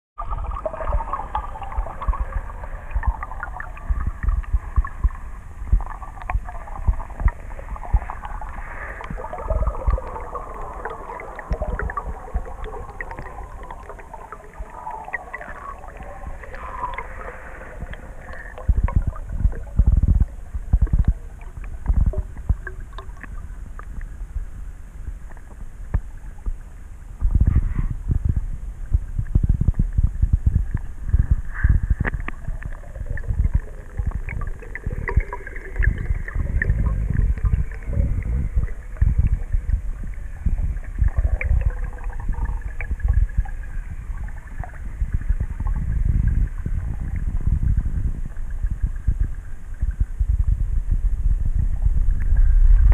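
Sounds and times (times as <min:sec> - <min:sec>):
underwater rumbles and knocks: 0:00.2 - 0:52.9.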